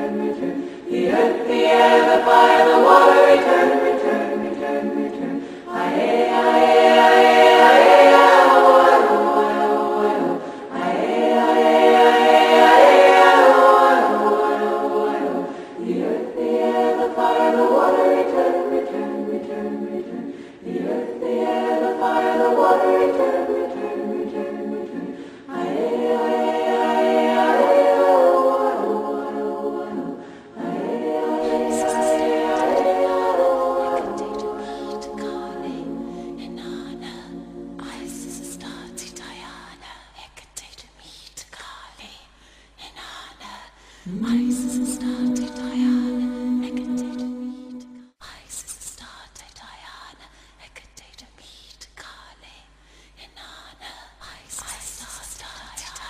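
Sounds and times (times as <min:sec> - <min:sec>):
choir singing a cappella: 0:00.0 - 0:42.2, 0:42.8 - 0:48.4, 0:53.4 - 0:56.0.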